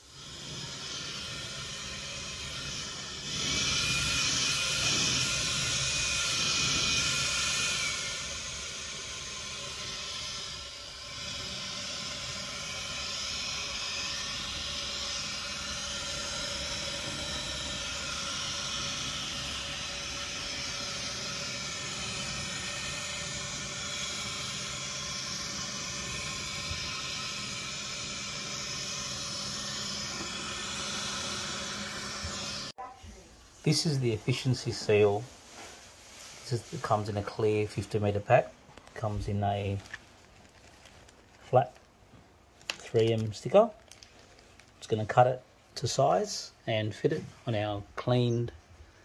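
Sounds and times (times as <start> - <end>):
blower rushing hiss: 0.0 - 42.0, 42.7 - 49.0.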